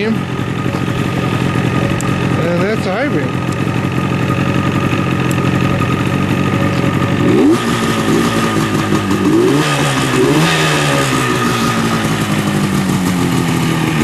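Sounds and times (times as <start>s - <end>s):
engine throttle blips: 0.0s - 14.0s
motorcycle engine idling: 0.0s - 14.0s.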